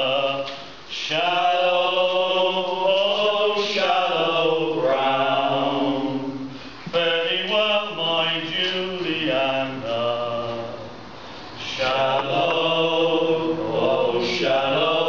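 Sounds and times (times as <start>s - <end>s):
men singing in harmony: 0.0s - 11.0s, 11.6s - 15.0s.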